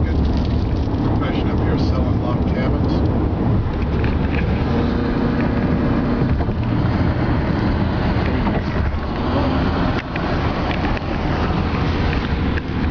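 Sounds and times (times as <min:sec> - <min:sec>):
car road and wind noise: 0:00.0 - 0:12.9.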